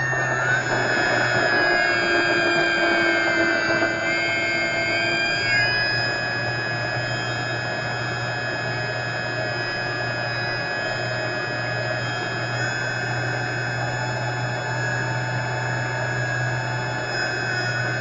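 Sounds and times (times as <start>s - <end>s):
electric motor and propeller whining: 0.0s - 18.0s.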